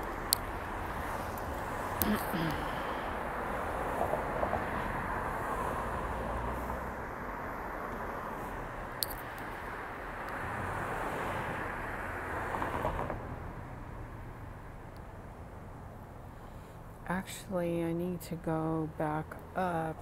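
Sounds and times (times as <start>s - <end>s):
car traffic on wet pavement: 0.0s - 17.0s.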